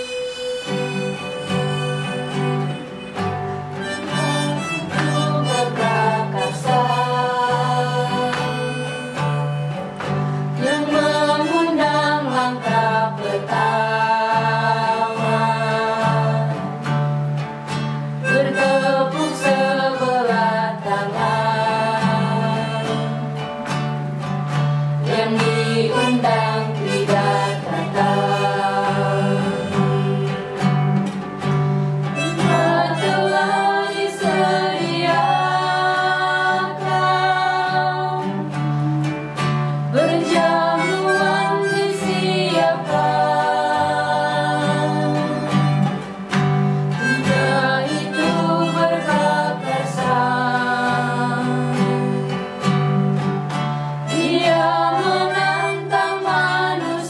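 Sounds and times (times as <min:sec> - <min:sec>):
women singing a hymn: 0:00.0 - 0:17.0, 0:18.2 - 0:23.6, 0:25.0 - 0:31.2, 0:32.2 - 0:46.2, 0:46.9 - 0:53.3, 0:54.1 - 0:57.0
acoustic guitar: 0:00.0 - 0:57.0.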